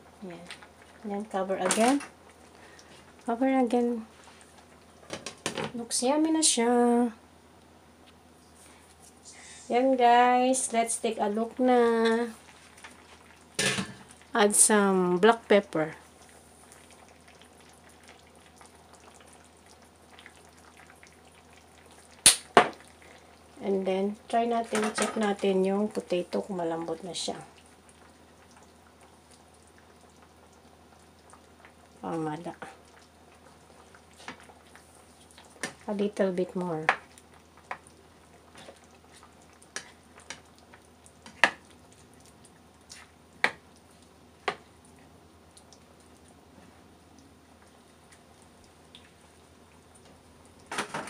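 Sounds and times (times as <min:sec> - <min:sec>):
stew bubbling and crackling: 0:00.0 - 0:06.0, 0:07.6 - 0:51.0.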